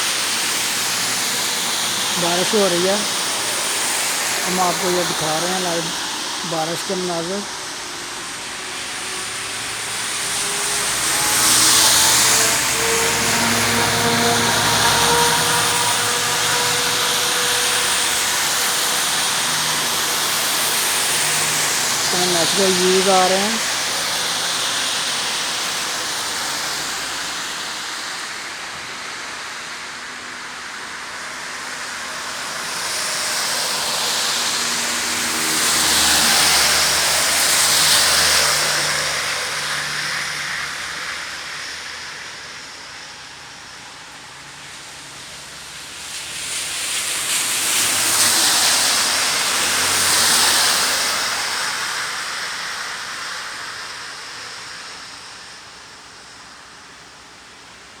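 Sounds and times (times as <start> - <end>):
rain hissing: 0.0 - 56.8
vehicles passing on wet road: 0.0 - 58.0.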